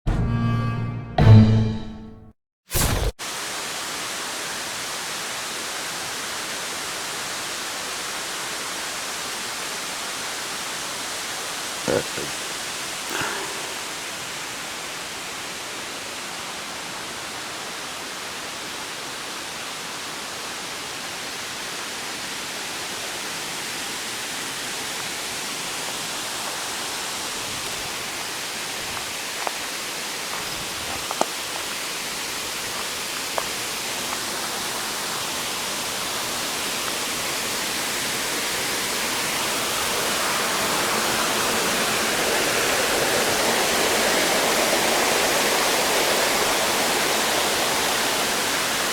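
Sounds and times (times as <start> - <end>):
waterfall rushing: 2.8 - 48.9.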